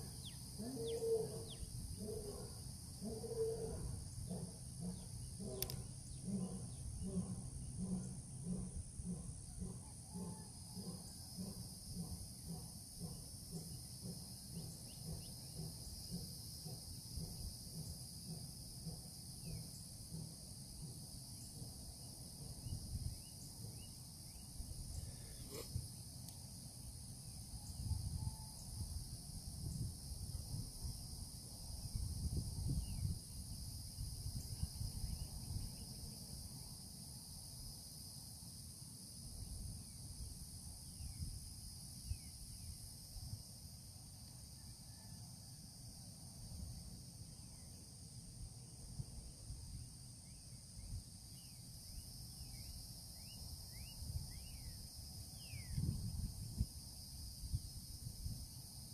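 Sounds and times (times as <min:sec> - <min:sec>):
insect chorus buzzing: 0:00.0 - 0:58.9.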